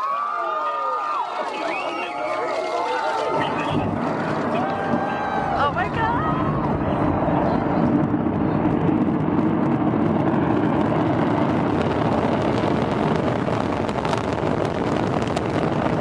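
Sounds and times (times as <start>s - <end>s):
rocket engine rumbling: 3.2s - 16.0s.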